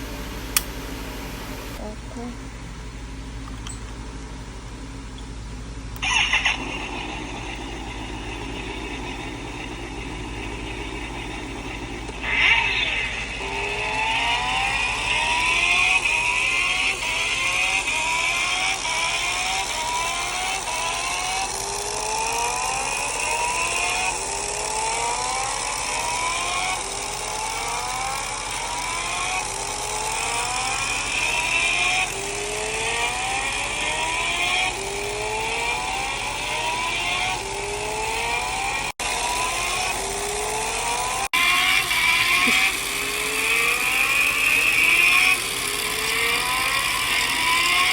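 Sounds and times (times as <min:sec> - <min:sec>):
motorcycle engine revving from speaker: 0:06.0 - 0:47.9.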